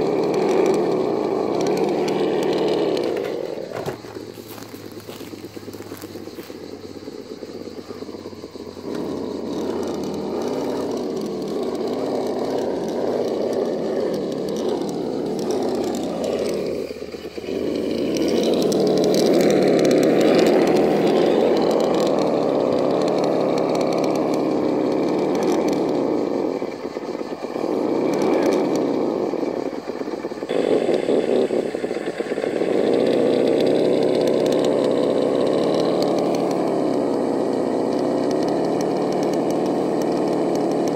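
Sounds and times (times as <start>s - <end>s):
electric motor and drivetrain whirring: 0.0s - 40.9s.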